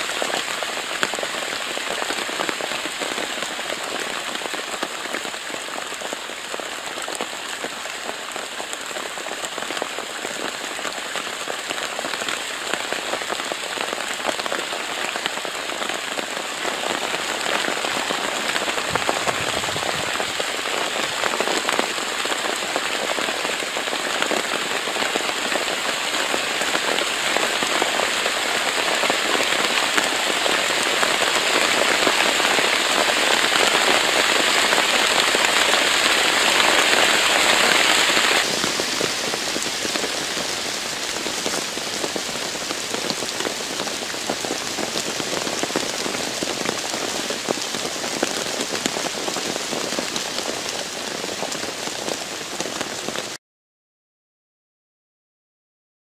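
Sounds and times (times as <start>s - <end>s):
heavy rain: 0.0s - 53.4s.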